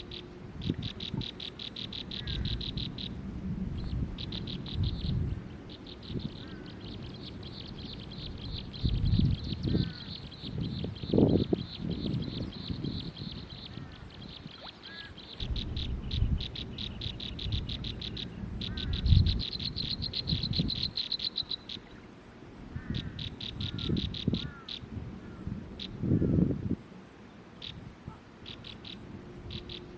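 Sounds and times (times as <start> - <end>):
nestling birds begging: 0.0 - 3.2, 3.9 - 22.0, 22.8 - 26.4.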